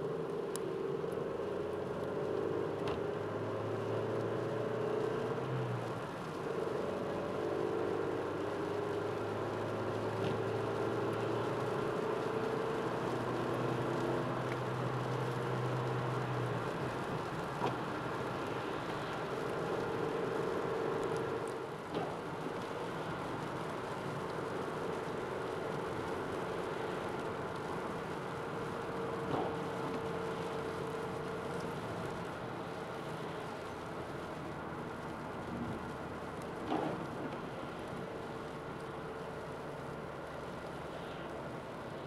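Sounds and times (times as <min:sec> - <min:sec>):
car engine hum: 0:00.0 - 0:42.0
tyres hissing on wet road: 0:00.0 - 0:42.0.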